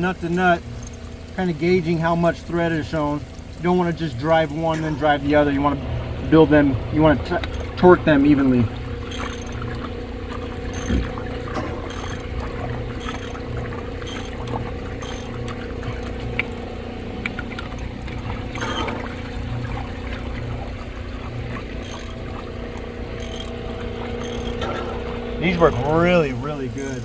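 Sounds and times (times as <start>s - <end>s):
pump humming: 0.0s - 27.0s
water pouring: 0.0s - 27.0s.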